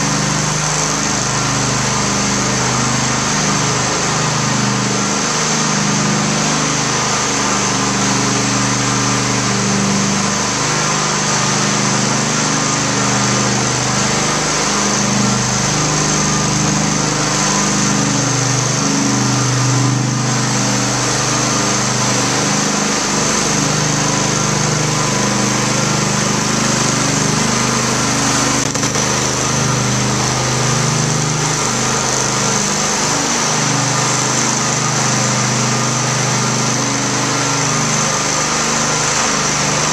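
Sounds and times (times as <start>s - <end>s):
floor burnisher engine humming: 0.0s - 39.9s.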